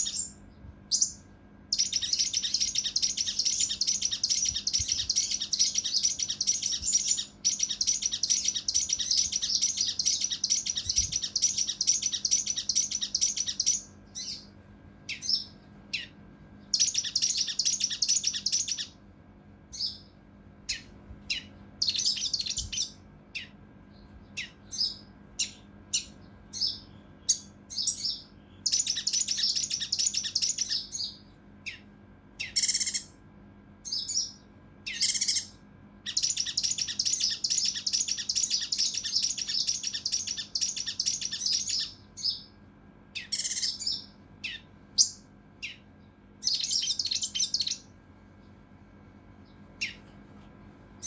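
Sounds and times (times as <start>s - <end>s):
bird singing with rattling trills: 0.0s - 19.0s, 19.7s - 33.2s, 33.8s - 47.9s, 49.4s - 50.1s.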